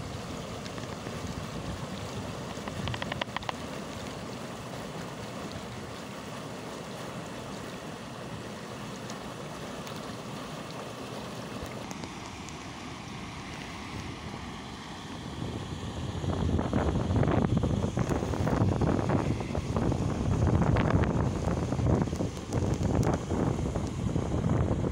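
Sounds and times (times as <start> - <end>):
stream rushing over boulders: 0.0 - 24.9.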